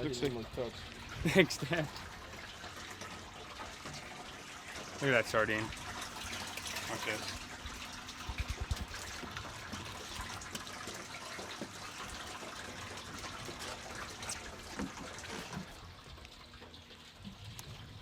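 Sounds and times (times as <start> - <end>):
water trickling and splashing: 0.0 - 18.0.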